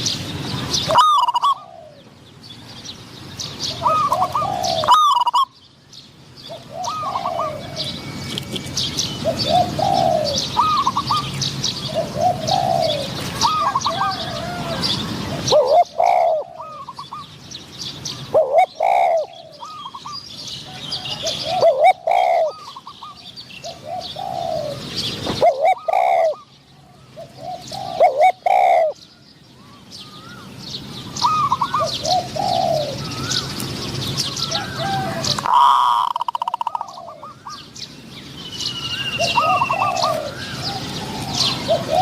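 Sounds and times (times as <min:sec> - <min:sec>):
doves cooing: 0:00.0 - 0:02.2, 0:03.4 - 0:05.6, 0:06.4 - 0:17.4, 0:18.0 - 0:29.0, 0:29.6 - 0:37.7, 0:39.0 - 0:42.0.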